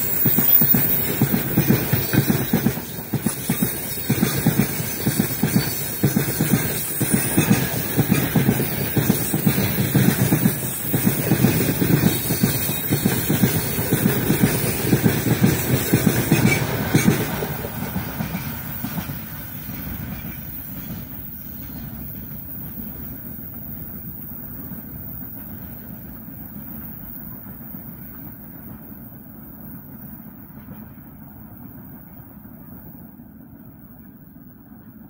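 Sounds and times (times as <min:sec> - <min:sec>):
train wheels clattering: 0:00.0 - 0:33.0
freight train rumble: 0:00.0 - 0:35.0.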